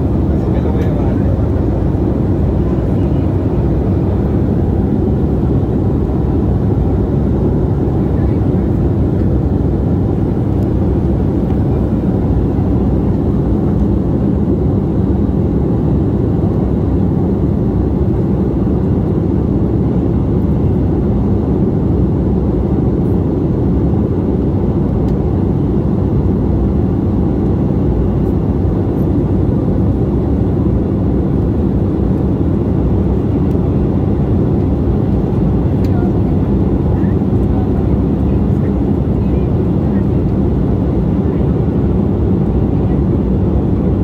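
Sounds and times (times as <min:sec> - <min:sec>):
airliner cabin rumble: 0:00.0 - 0:44.0.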